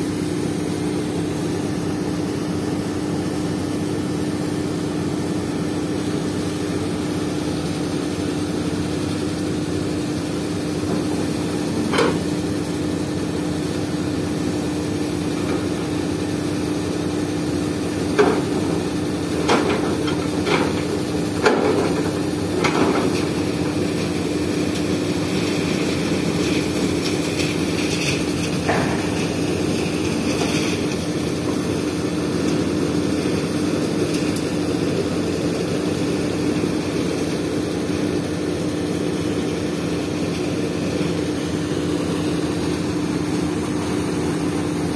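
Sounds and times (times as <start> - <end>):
excavator diesel engine hum: 0.0 - 44.9.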